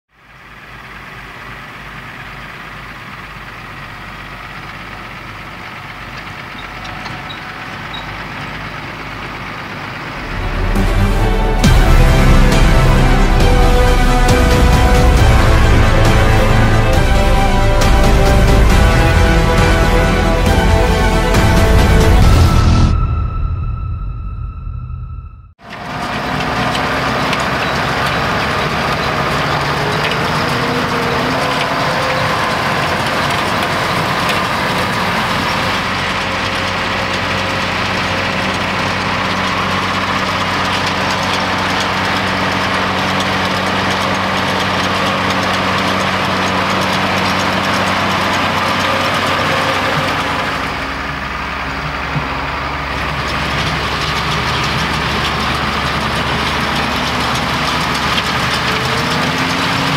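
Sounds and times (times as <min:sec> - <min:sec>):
tractor diesel engine running: 0:00.1 - 0:59.9.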